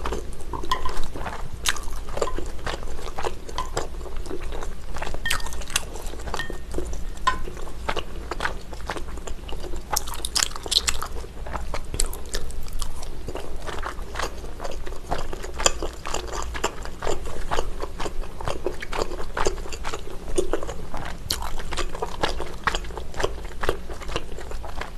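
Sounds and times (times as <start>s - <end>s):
wet chewing: 0.0s - 24.9s.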